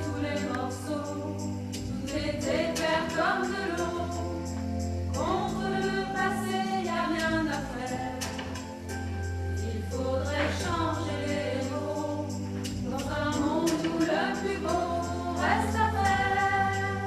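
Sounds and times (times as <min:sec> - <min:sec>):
women singing in parts: 0:00.0 - 0:08.9, 0:09.5 - 0:17.0.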